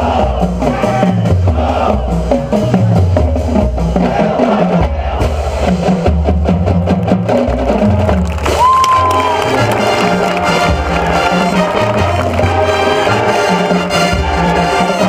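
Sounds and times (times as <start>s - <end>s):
bass drums: 0.0s - 15.0s.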